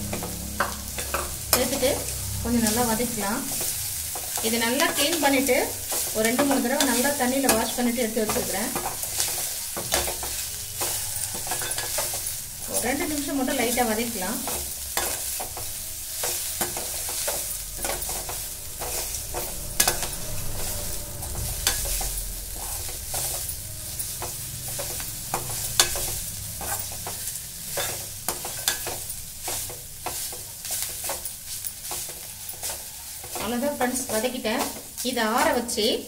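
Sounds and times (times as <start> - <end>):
leaves sizzling in oil: 0.0 - 36.0
metal spatula scraping pan: 0.0 - 36.0.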